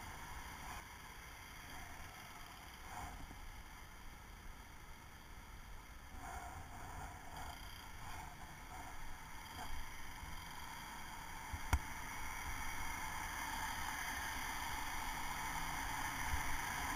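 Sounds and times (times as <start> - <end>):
wind and road rumble: 0.0 - 16.9.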